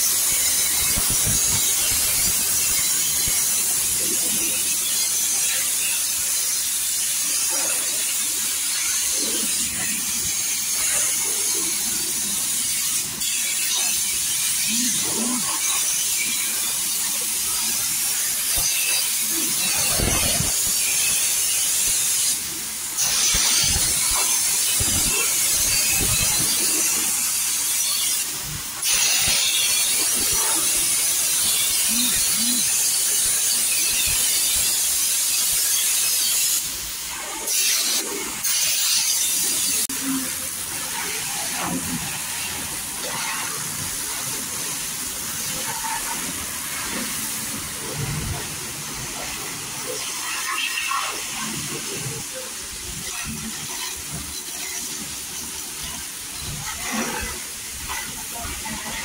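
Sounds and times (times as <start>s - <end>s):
high-pressure spray hissing: 0.0s - 59.0s.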